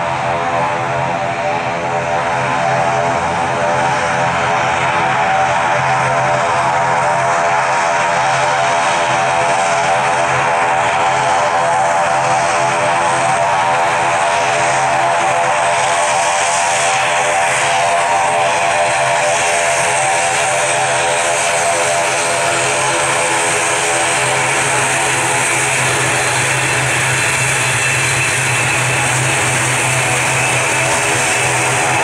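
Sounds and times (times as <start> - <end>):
propeller plane taxiing drone: 0.0 - 32.0.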